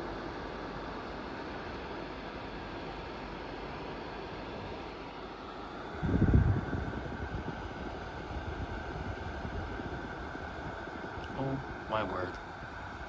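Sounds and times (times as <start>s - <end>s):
electric fan blowing air: 0.0s - 13.0s.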